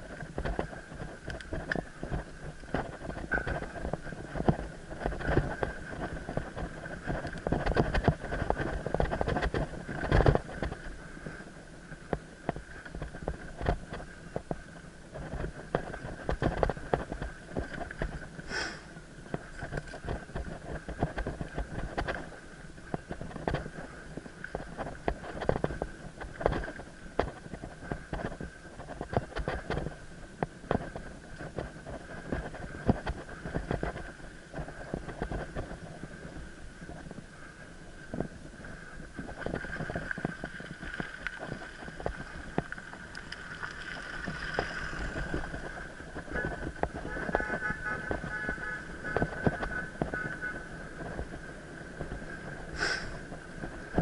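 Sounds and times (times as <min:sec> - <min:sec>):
bike rattling on bumps: 0:00.0 - 0:54.0
bike tyres running over dirt: 0:00.0 - 0:54.0.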